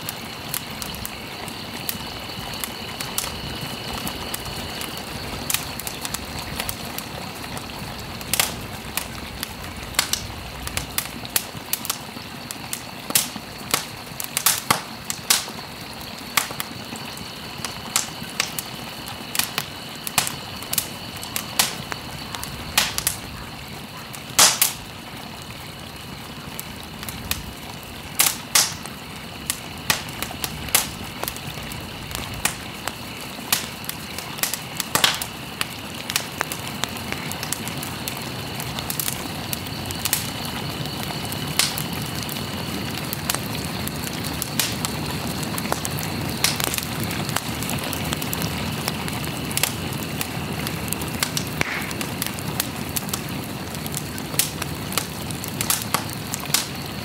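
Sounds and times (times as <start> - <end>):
crackles and pops: 0.0 - 57.0
steady rushing hiss: 0.0 - 57.0.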